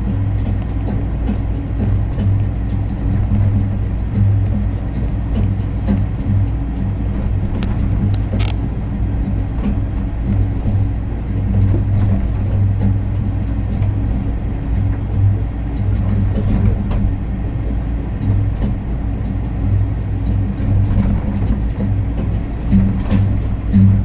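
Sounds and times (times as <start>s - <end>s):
low mechanical hum: 0.0s - 24.0s
faint clicks: 0.1s - 24.0s.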